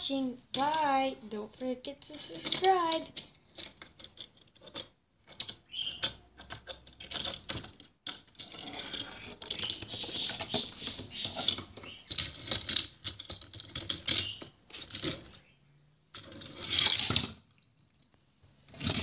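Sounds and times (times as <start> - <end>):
toy trains clicking on wooden track: 0.0 - 15.4, 16.1 - 18.1, 18.7 - 19.0.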